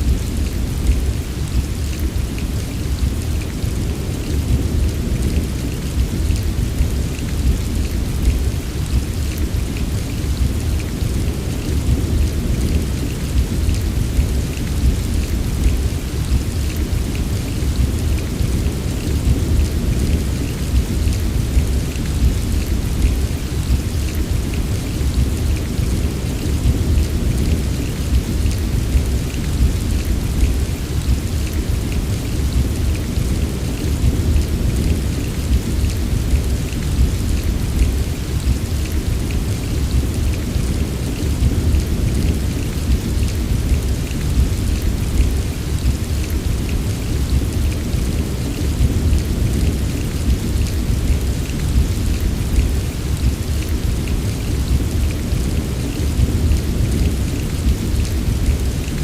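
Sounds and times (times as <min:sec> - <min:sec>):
heavy rain: 0:00.0 - 0:59.0
patter of raindrops: 0:00.0 - 0:59.0.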